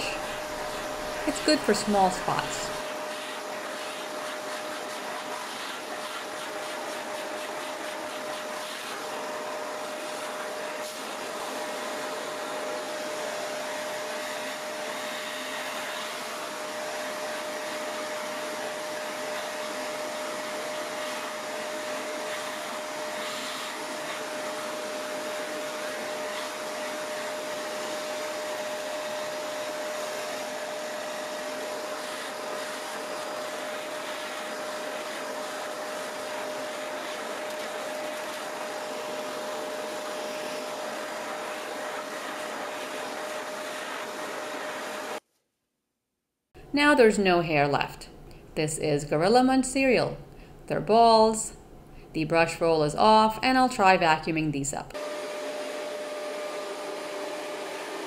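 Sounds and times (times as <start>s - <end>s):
vacuum cleaner running: 0.0s - 45.2s, 54.9s - 58.0s.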